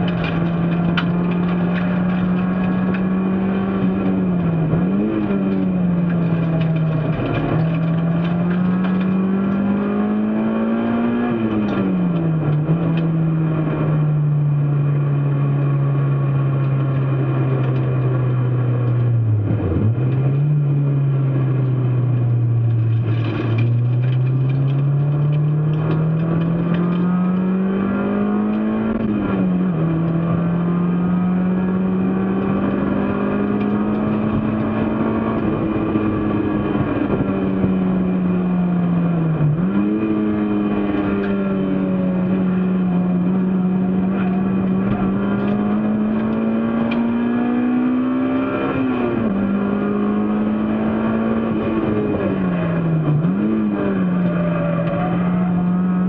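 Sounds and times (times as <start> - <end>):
other car engines: 0.0 - 56.0
racing car engine revving: 0.0 - 56.0.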